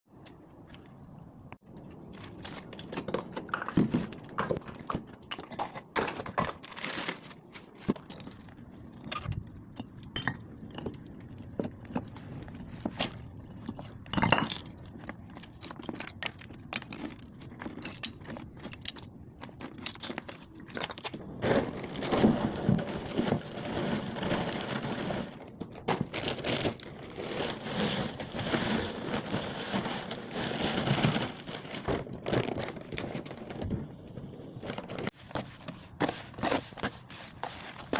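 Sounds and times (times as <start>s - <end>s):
building materials crunching and scraping: 0.6s - 37.9s.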